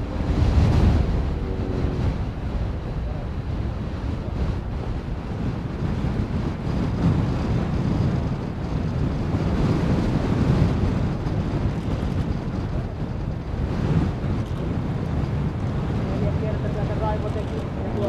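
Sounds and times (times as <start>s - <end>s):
distant airplane engine drone: 0.0s - 18.0s
wind noise on microphone: 0.0s - 18.0s.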